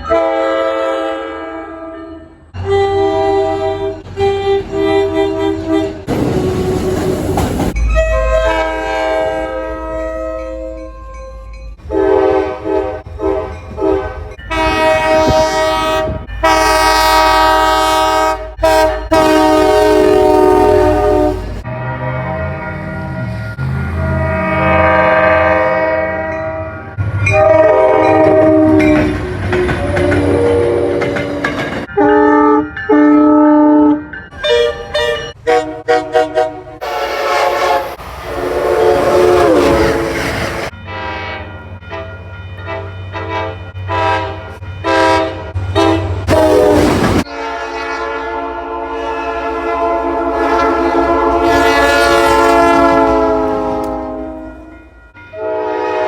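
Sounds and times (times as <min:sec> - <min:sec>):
multi-tone train horns: 0:00.0 - 0:56.0.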